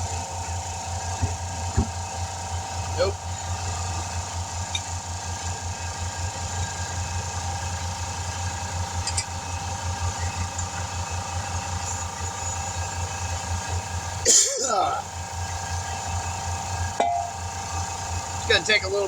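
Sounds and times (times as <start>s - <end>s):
motor running with whine: 0.0s - 19.0s.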